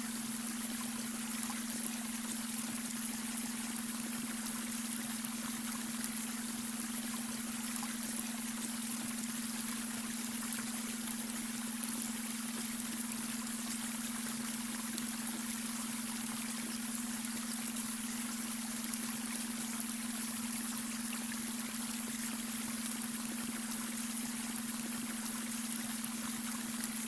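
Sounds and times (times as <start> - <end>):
brook water trickling over stones: 0.0 - 27.0.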